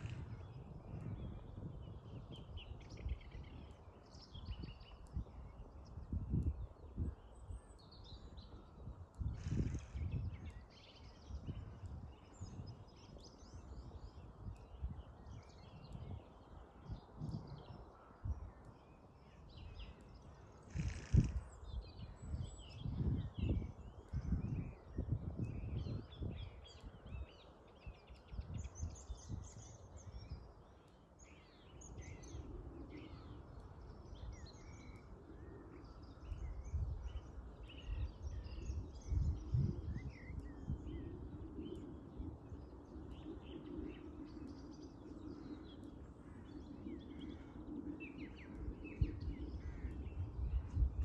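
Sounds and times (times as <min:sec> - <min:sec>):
small birds chirping: 0:00.0 - 0:51.0
wind rumbling on microphone: 0:00.0 - 0:51.0.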